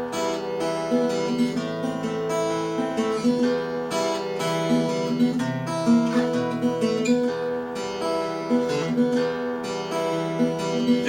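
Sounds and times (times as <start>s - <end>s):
acoustic guitar blues: 0.0s - 11.0s.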